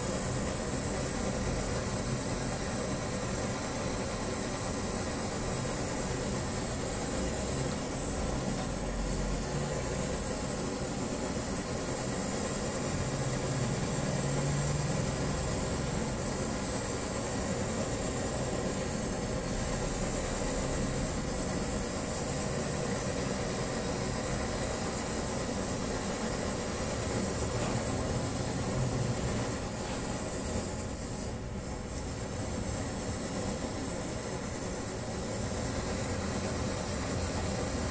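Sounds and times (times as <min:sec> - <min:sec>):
pressure stove burner hissing: 0:00.0 - 0:37.9.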